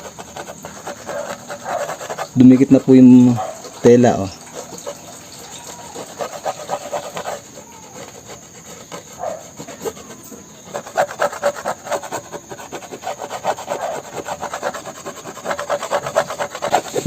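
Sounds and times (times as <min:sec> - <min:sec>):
hacksaw blade scraping plastic: 0:00.0 - 0:17.0.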